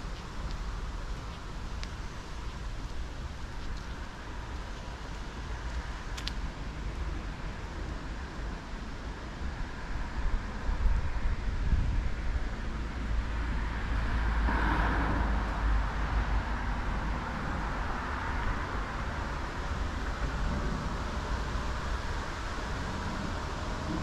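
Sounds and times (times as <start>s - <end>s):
distant road traffic hiss: 0.0s - 24.0s
wind rumble on microphone: 0.0s - 24.0s.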